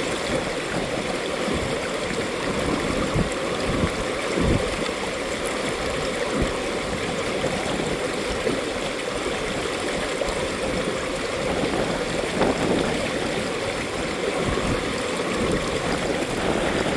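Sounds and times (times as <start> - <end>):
stream flowing over rocks: 0.0 - 16.9.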